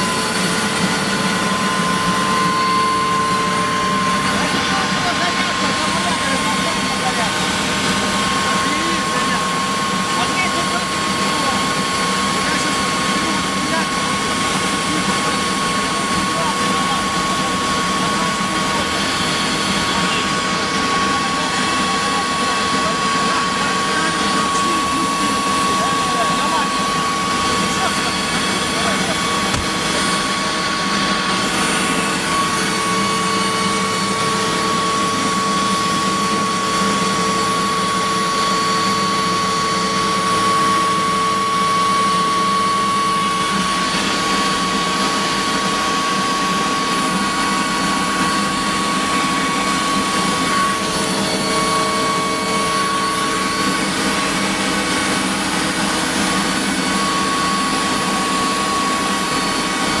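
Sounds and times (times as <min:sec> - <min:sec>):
constant high whine: 0:00.0 - 1:00.0
helicopter turbine engine: 0:00.0 - 1:00.0.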